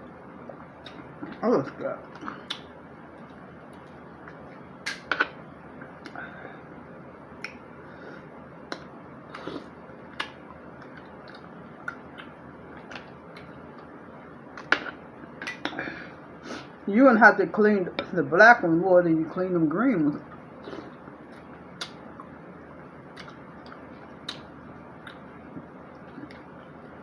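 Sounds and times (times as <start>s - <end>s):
steady low hiss: 0.0s - 27.0s.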